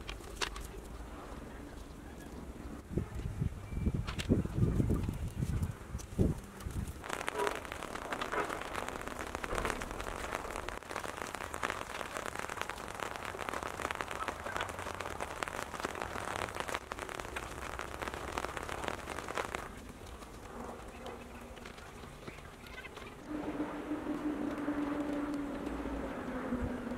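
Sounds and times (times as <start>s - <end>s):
dense crackling patter: 0.0s - 26.9s.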